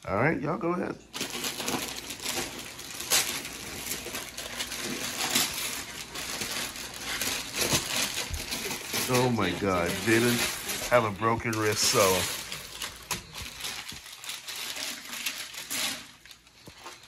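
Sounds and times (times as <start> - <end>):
paper tearing rips: 1.2 - 16.4
paper crackling rustle: 1.2 - 17.0.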